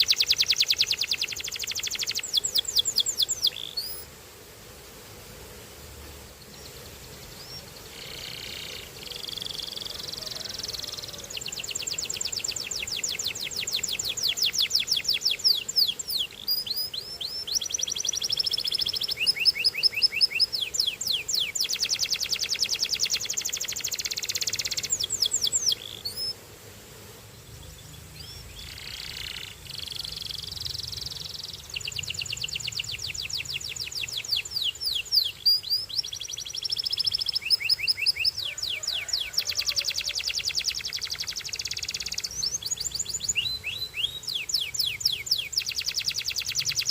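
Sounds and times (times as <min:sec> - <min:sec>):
canary singing trills: 0:00.0 - 0:04.0, 0:06.5 - 0:26.4, 0:27.5 - 0:46.9.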